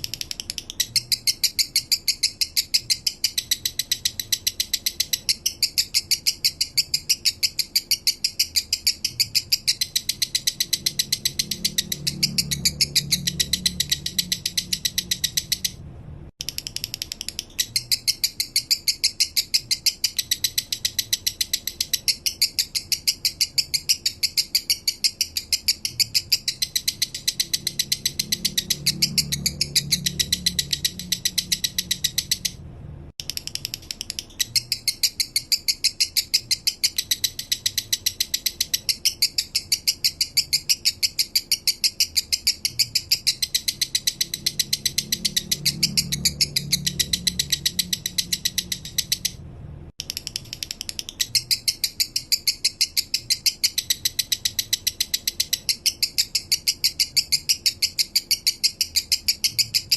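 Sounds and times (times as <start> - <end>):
lovebird chirping: 0.0 - 32.6, 33.2 - 49.4, 50.0 - 59.9.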